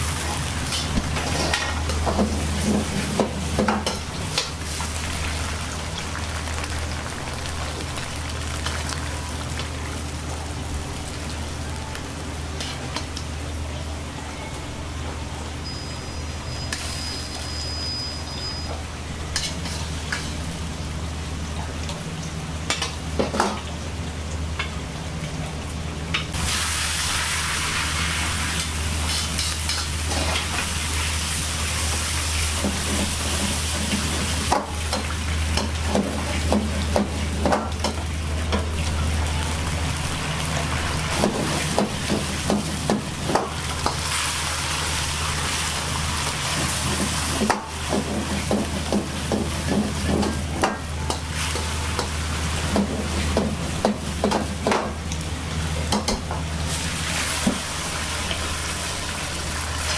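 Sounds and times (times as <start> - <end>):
food sizzling in a wok: 0.0 - 13.7, 15.6 - 21.5, 26.3 - 59.9.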